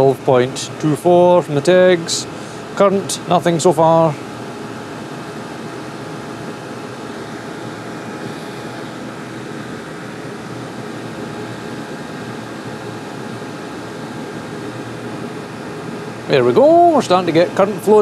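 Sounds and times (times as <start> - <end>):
diesel heater rushing hum: 0.0 - 18.0
faint steady whine: 0.0 - 18.0.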